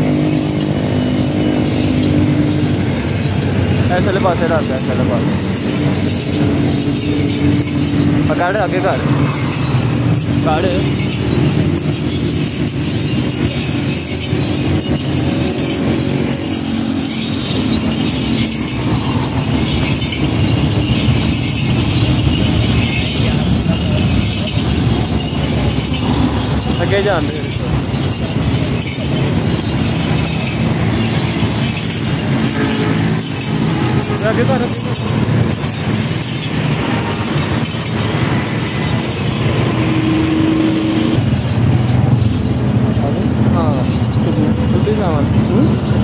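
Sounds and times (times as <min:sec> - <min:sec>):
road traffic rumble: 0:00.0 - 0:46.0
slow-moving car: 0:00.0 - 0:46.0.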